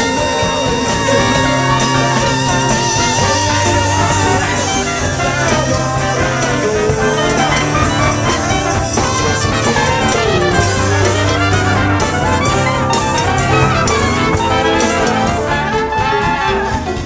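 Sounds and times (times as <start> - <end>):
live band playing: 0.0 - 17.0
steady bass line: 0.0 - 17.0.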